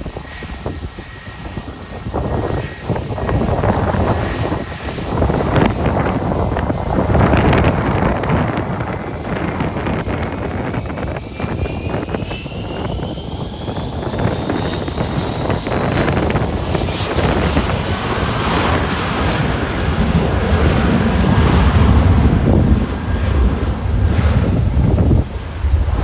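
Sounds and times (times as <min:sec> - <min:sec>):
airliner engines whining: 0:00.0 - 0:26.0
wind on microphone: 0:00.0 - 0:26.0.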